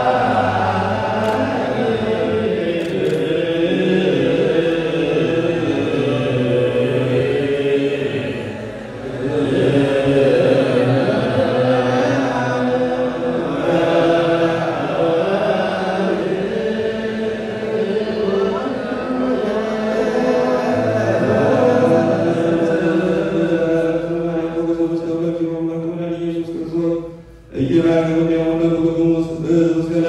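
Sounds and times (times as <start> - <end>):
voices chanting together: 0.0 - 30.0.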